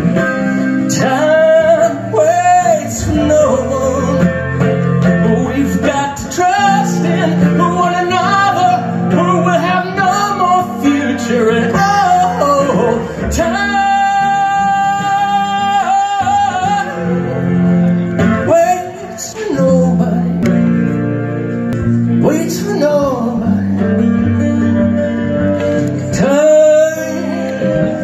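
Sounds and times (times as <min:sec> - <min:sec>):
electric guitar: 0:00.0 - 0:28.0
man singing: 0:00.0 - 0:28.0.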